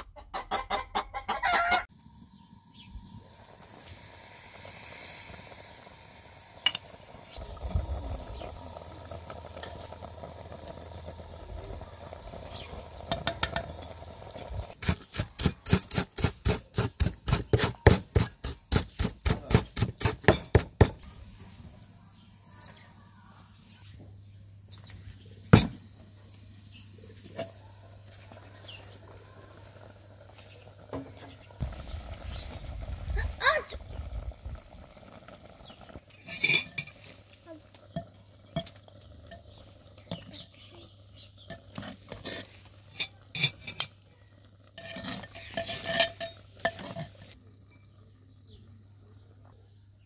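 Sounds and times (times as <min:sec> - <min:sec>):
stew bubbling in a pot: 0:01.9 - 0:21.8, 0:25.2 - 0:50.0.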